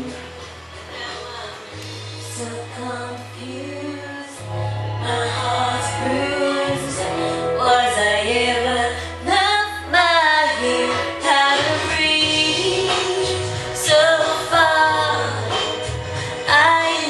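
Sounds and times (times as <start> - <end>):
pop song with woman singing: 0.0 - 17.0.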